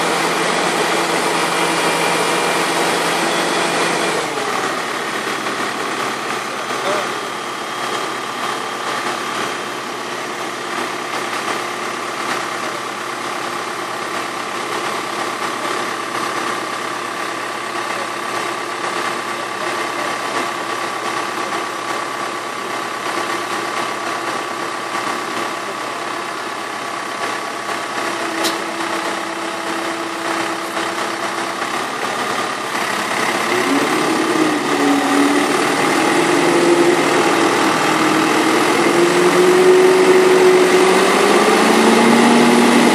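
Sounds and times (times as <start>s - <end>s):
tractor diesel engine idling: 0.0s - 42.9s.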